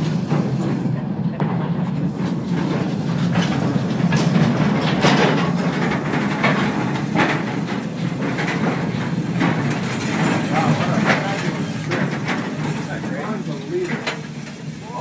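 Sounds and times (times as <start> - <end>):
train cars rumbling on track: 0.0 - 15.0
wheels clanking and clicking: 0.0 - 15.0.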